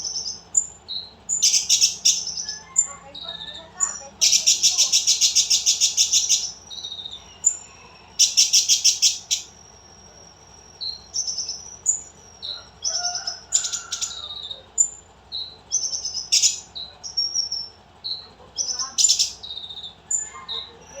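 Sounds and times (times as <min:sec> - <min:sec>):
bird chattering trills: 0:00.0 - 0:21.0
high sliding bird chirps: 0:00.0 - 0:21.0.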